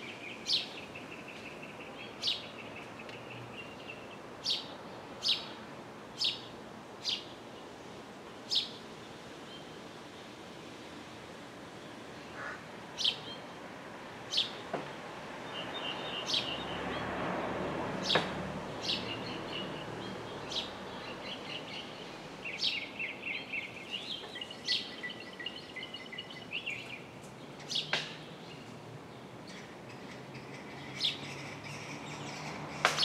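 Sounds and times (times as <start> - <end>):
soft steady background noise: 0.0 - 33.0.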